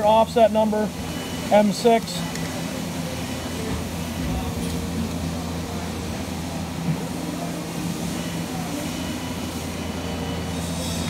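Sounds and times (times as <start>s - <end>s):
machine electrical hum: 0.0s - 11.0s.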